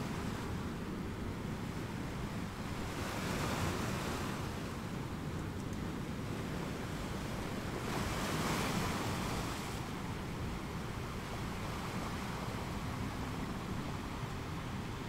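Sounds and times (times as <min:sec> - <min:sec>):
wind and water hiss: 0:00.0 - 0:15.0.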